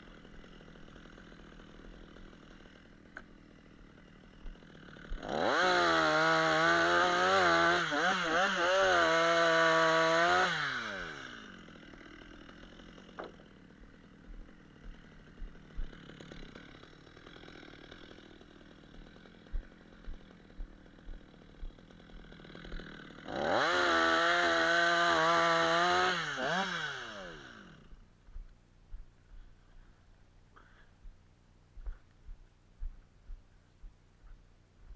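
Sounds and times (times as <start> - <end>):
chainsaw revving and idling: 0.0 - 34.9.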